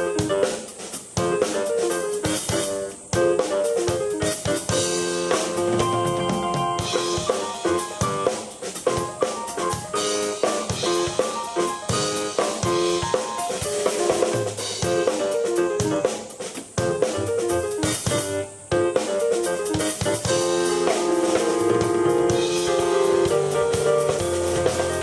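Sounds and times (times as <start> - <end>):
rock drumming: 0.0 - 25.0
sustained keyboard notes: 1.2 - 16.2, 16.8 - 25.0.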